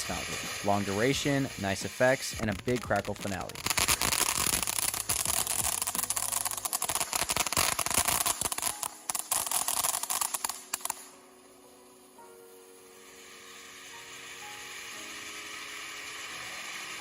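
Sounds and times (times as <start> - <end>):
firework fountain crackling and hissing: 0.0 - 17.0.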